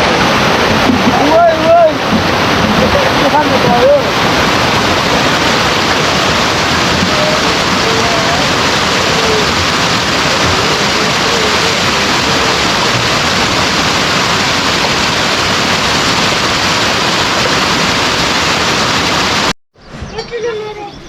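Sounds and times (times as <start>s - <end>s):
rushing stream water: 0.0s - 19.6s.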